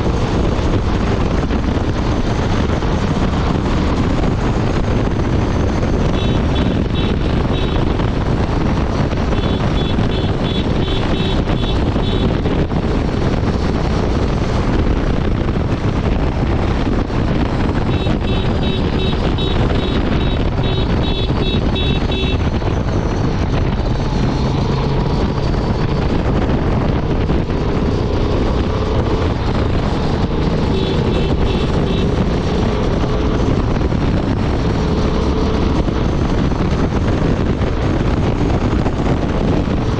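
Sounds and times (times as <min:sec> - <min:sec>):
motorcycle engine running steadily: 0:00.0 - 0:39.9
wind rush on microphone: 0:00.0 - 0:39.9.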